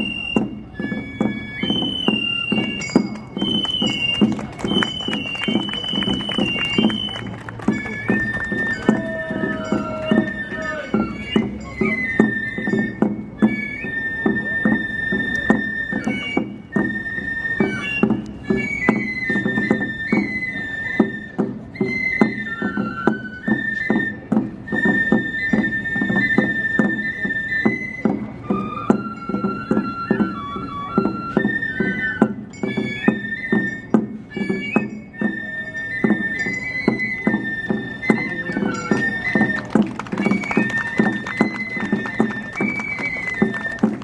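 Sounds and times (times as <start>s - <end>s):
rapid drum and gong percussion: 0.0s - 44.0s.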